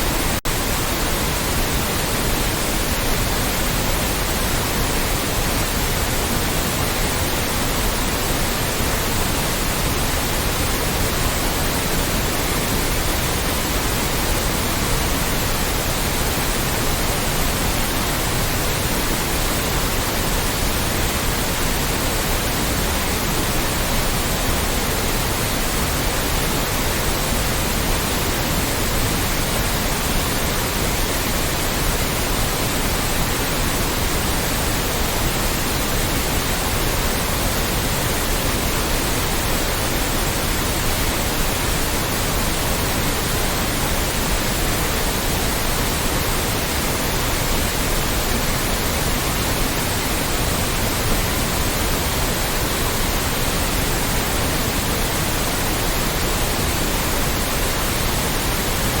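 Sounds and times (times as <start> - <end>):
synthetic white noise: 0.0 - 59.0.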